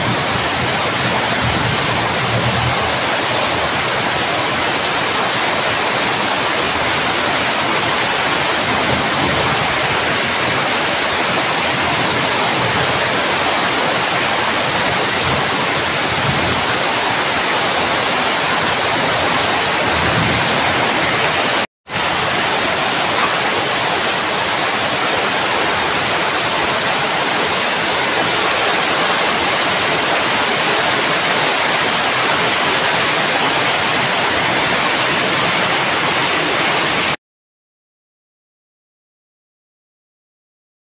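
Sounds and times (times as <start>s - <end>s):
heavy rain on a metal roof: 0.0s - 37.2s.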